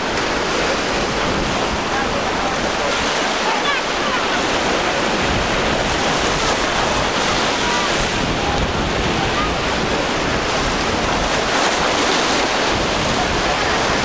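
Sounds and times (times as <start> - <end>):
surf and choppy waves: 0.0 - 14.0
wind rumbling on microphone: 0.0 - 14.0.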